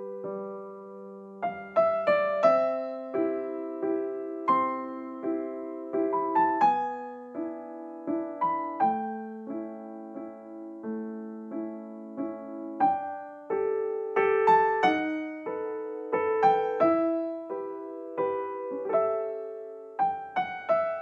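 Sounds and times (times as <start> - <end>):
piano notes and chords: 0.0 - 21.0.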